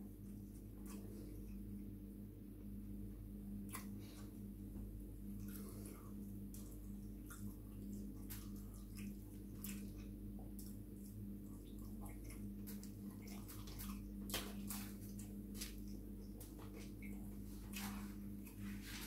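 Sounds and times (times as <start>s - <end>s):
steady low hum: 0.0s - 19.0s
wet chewing and lip-smacking: 0.2s - 1.9s, 3.6s - 4.4s, 5.2s - 18.6s.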